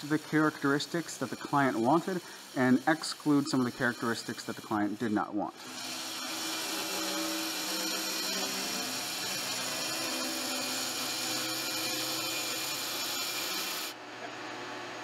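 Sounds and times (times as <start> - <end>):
track saw cutting wood: 0.0 - 14.7.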